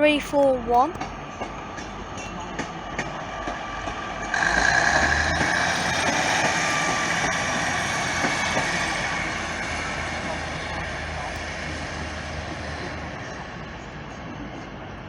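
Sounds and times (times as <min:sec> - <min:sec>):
diesel railcar engine: 0:00.0 - 0:15.0.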